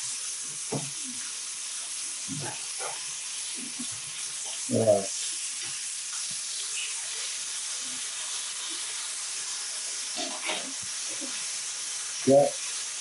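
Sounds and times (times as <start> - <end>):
burger patties sizzling: 0.0 - 13.0.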